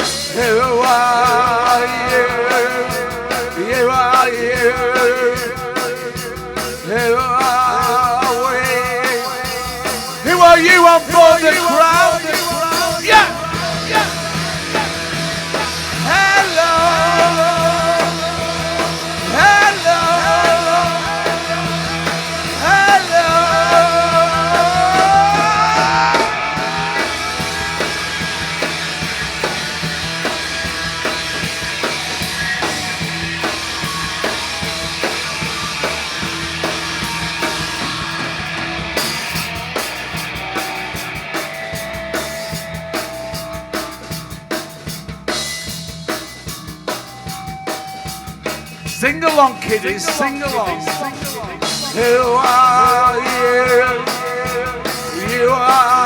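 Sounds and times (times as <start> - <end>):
rock band instrumental: 0.0 - 56.0.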